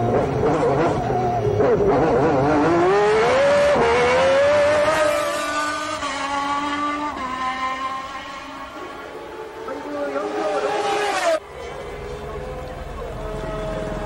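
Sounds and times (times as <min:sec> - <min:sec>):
racing car engine revving: 0:00.0 - 0:11.4.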